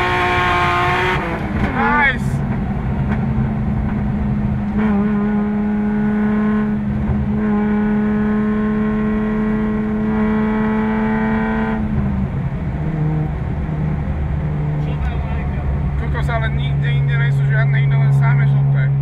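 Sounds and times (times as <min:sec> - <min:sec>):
car engine running under load: 0:00.0 - 0:19.0.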